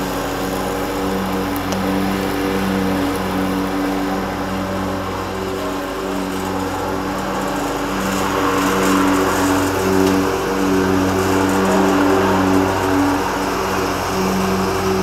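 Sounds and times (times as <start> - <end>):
riding mower engine running: 0.0 - 15.0.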